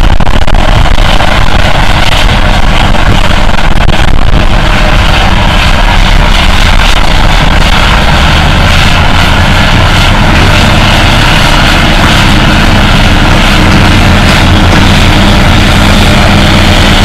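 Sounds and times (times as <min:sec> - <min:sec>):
bulldozer diesel engine under load: 0:00.0 - 0:17.0.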